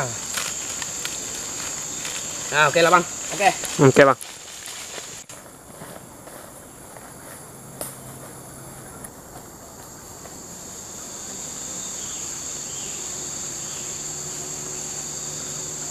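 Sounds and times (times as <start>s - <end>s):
insects droning: 0.0s - 15.9s.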